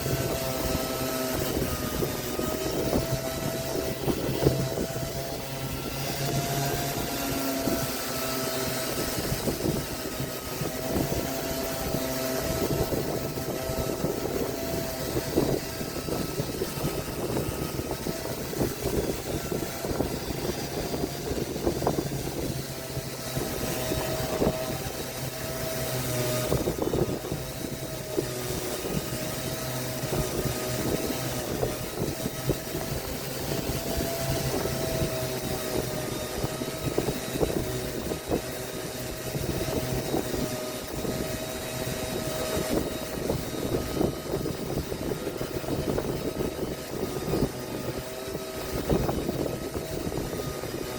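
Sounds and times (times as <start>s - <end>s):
power tool whining: 0.0s - 50.9s.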